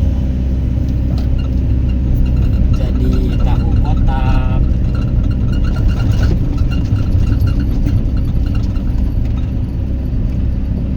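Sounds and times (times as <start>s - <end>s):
diesel engine rumbling: 0.0s - 10.9s
light rattle: 1.0s - 10.9s.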